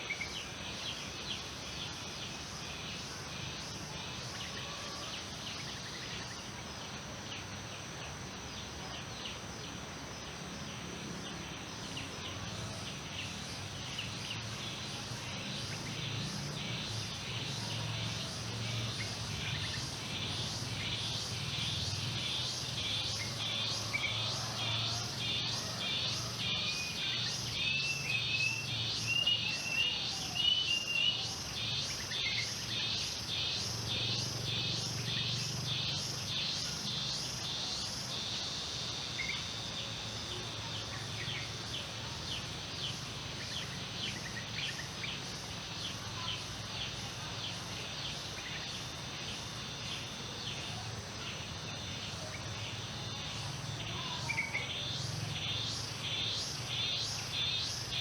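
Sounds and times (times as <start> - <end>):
high insect trill: 0.0 - 58.0
insects chirping: 0.0 - 58.0.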